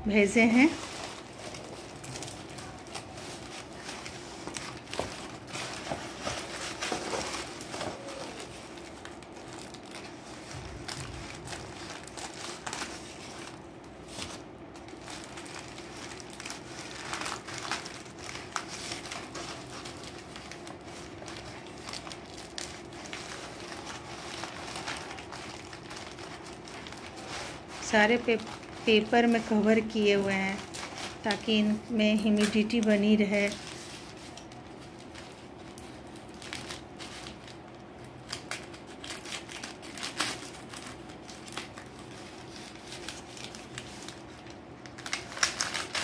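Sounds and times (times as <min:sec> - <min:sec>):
newspaper rustling and crinkling: 0:00.1 - 0:46.0.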